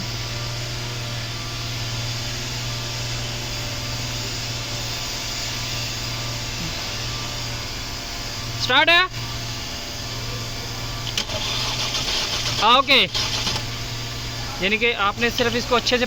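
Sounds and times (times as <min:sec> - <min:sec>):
machine hum with hiss: 0:00.0 - 0:16.0.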